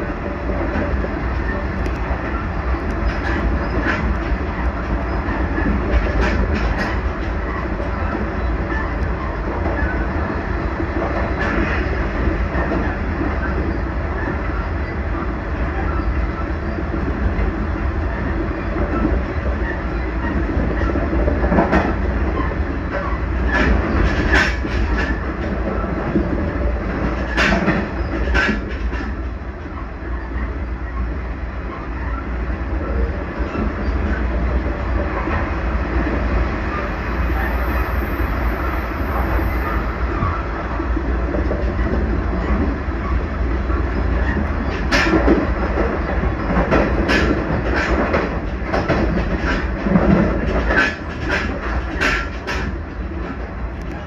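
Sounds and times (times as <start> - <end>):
wheels clacking over rail joints: 0.0 - 30.6, 32.8 - 54.0
train wheels and motors rumbling: 0.0 - 54.0.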